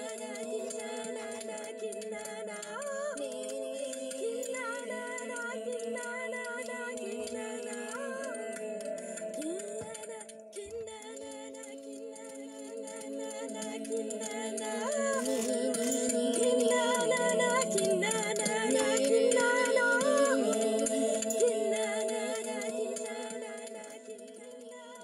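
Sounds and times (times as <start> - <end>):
person singing slow melody: 0.0 - 25.0.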